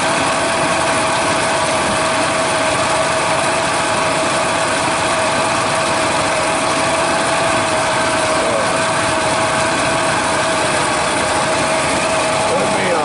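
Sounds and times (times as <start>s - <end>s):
constant whine: 0.0s - 13.0s
engine idling: 0.0s - 13.0s.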